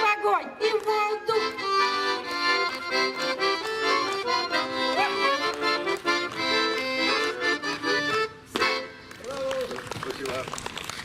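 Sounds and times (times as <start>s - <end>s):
accordion playing chords: 0.0s - 9.2s.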